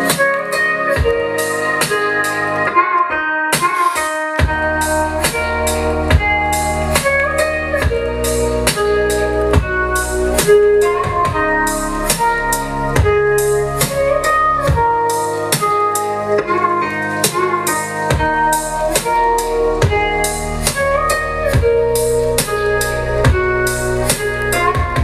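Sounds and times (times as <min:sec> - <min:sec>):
music with steady drum beat: 0:00.0 - 0:03.0, 0:03.6 - 0:25.0
deep bass line: 0:04.1 - 0:25.0.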